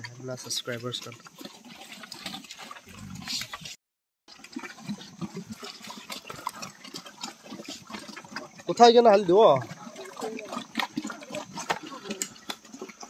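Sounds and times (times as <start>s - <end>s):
liquid feed sloshing and splashing: 0.0s - 13.0s
pigs grunting: 0.0s - 13.0s.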